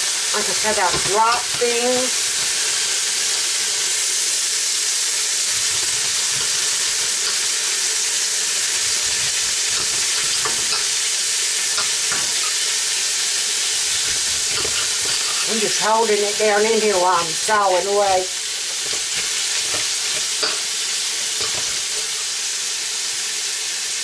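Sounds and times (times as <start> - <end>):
food sizzling in a frying pan: 0.0 - 24.0
knife scraping against pan: 0.5 - 4.0, 5.4 - 22.4.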